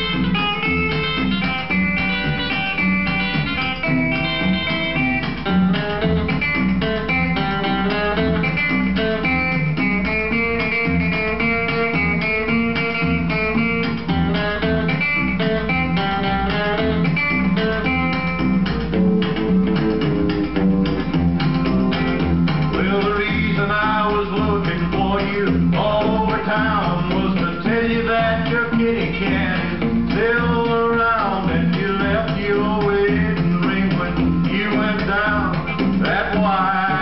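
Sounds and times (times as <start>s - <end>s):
country guitar instrumental: 0.0s - 37.0s
steady bass beat: 0.0s - 37.0s.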